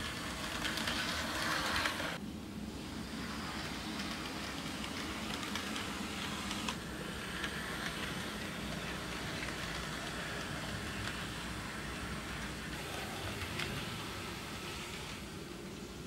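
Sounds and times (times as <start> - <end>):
model train motor humming: 0.0 - 2.2, 2.8 - 16.0
wheels clicking over rail joints: 0.0 - 2.2, 3.4 - 15.7.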